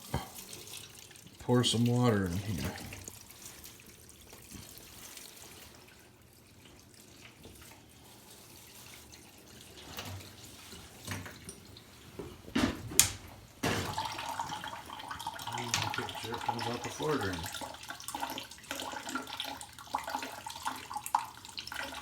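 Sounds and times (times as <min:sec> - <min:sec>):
water flowing: 0:00.0 - 0:12.5, 0:13.3 - 0:22.0
water trickling and dripping: 0:00.0 - 0:22.0.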